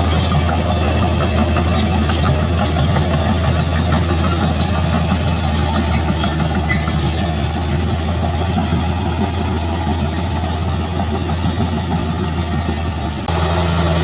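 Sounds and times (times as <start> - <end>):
bulldozer diesel engine running: 0.0 - 14.0
steel tracks squeaking: 0.0 - 14.0.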